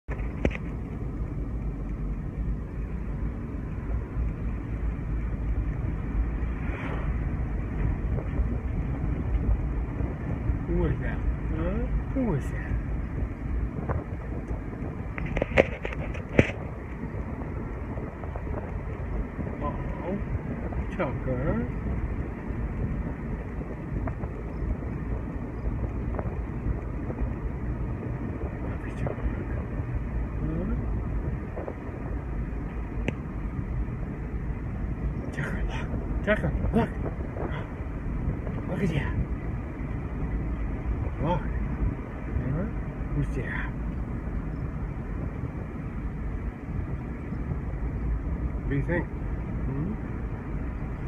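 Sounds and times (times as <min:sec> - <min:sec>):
engine and tyres rumbling: 0:00.0 - 0:51.0.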